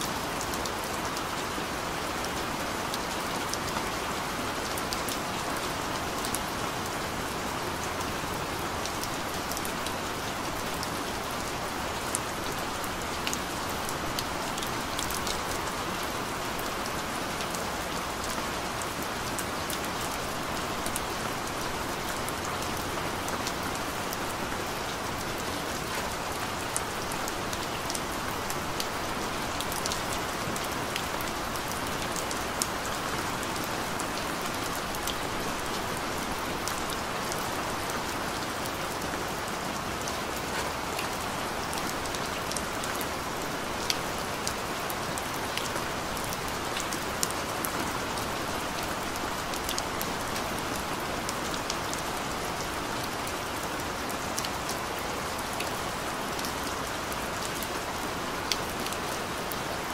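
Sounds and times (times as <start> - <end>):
gentle rain hissing: 0.0 - 59.9.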